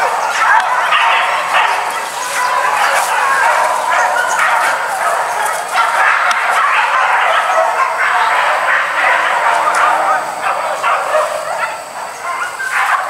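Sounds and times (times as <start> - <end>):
hunting dogs yelping and baying: 0.0 - 13.0.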